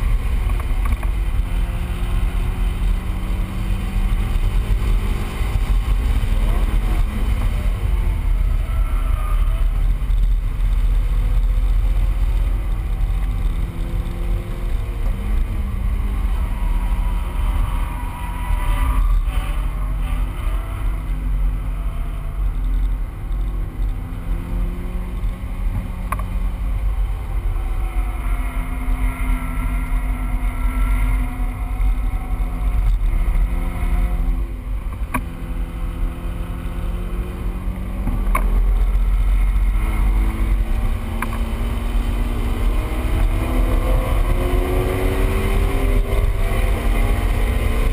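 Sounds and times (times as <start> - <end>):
car engine revving: 0.0 - 47.9
wind and road noise: 0.0 - 47.9.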